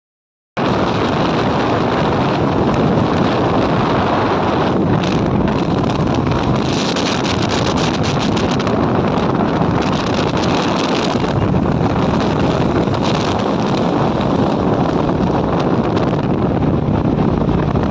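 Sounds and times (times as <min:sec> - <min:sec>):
motorcycle engine and road noise: 0:00.6 - 0:17.9
wind buffeting microphone: 0:00.6 - 0:17.9.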